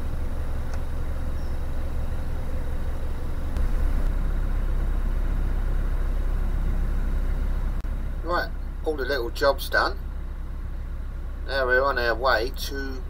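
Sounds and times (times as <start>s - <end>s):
diesel boat engine rumbling: 0.0s - 13.0s.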